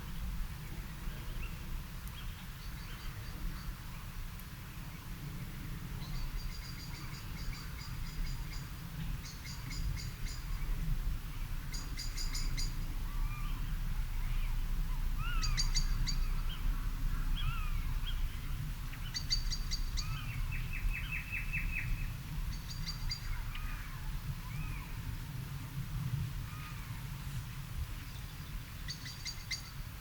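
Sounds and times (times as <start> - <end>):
steady low rumble: 0.0 - 28.9.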